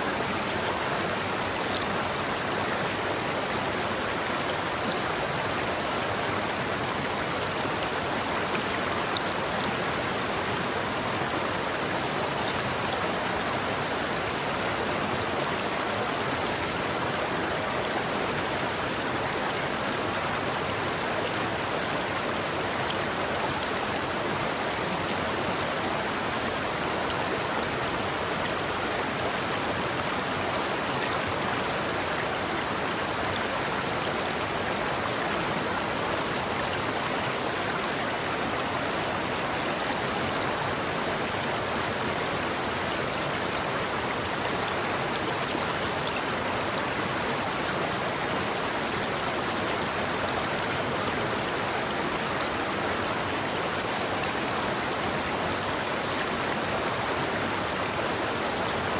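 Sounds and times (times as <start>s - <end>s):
river water flowing over rocks: 0.0s - 58.9s.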